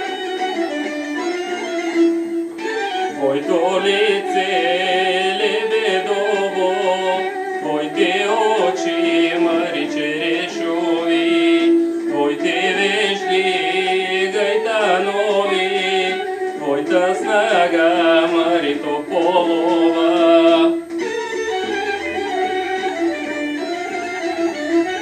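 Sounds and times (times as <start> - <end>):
instrumental accompaniment: 0.0 - 25.0
person singing folk song: 2.6 - 22.7.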